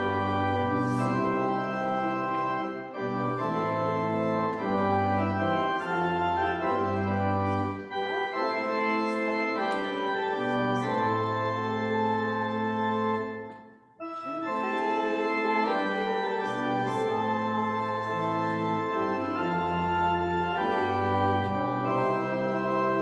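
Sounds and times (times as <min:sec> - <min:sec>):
organ playing a hymn: 0:00.0 - 0:23.0.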